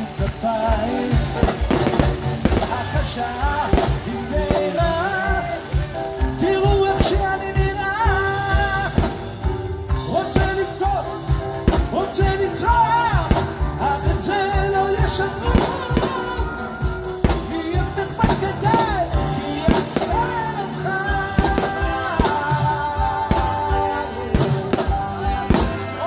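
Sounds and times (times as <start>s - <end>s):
fireworks bangs: 0.0s - 26.0s
singers with symphony orchestra: 0.0s - 26.0s.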